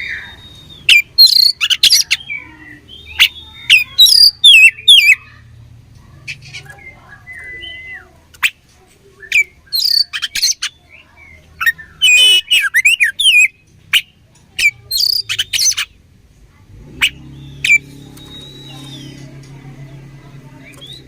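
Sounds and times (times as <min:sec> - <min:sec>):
magpie-robin singing: 0:00.0 - 0:05.5, 0:06.1 - 0:16.1, 0:16.9 - 0:21.0.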